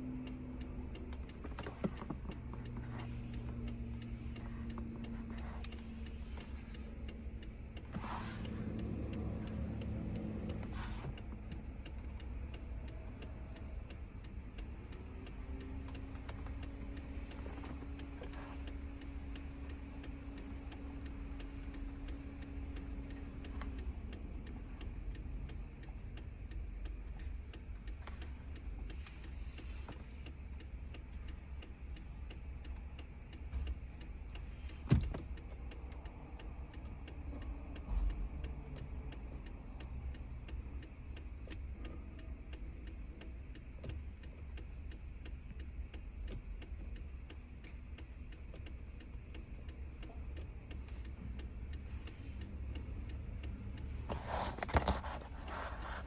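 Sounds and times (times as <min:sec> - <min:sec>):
mechanical ticking: 0:00.0 - 0:08.0, 0:08.6 - 0:54.0
low steady tone: 0:00.0 - 0:56.0.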